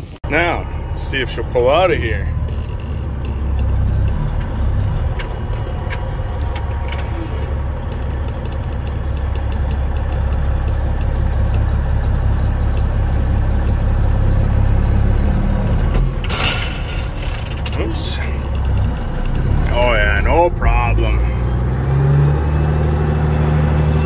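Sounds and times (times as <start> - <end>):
truck diesel engine rumble: 0.0 - 24.0.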